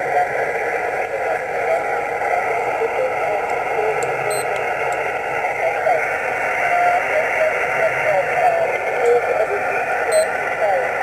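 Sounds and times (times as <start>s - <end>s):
faint whistling radio tones: 0.0s - 4.6s, 6.6s - 11.0s
radio static and hiss: 0.0s - 11.0s.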